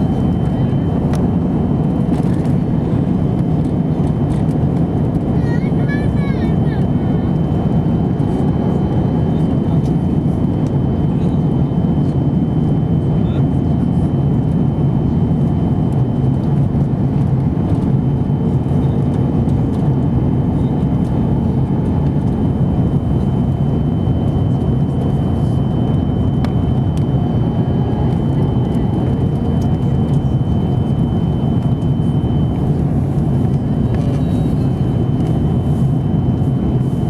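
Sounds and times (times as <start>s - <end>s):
aircraft engines droning: 0.0s - 37.0s.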